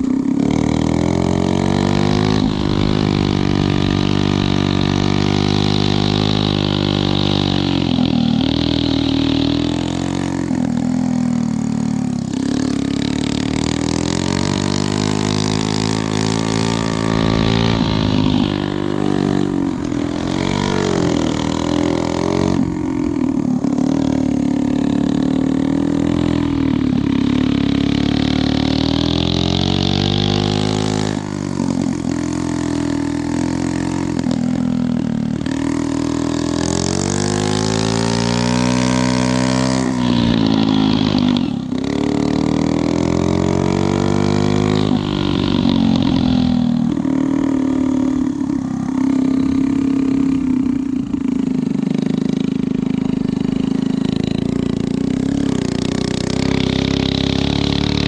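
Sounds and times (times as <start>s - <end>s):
small engine revving: 0.0s - 58.0s.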